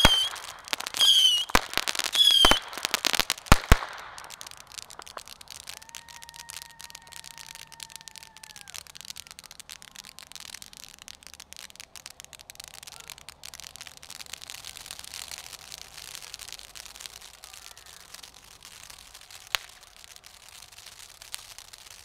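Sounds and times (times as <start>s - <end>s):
firework fountain crackling: 0.0s - 22.0s
firework fountain hissing: 0.0s - 22.0s.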